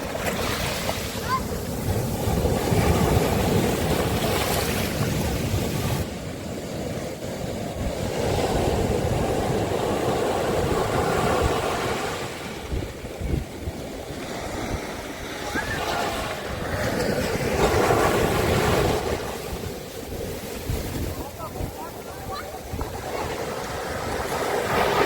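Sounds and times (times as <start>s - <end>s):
sea waves washing onto beach: 0.0s - 25.0s.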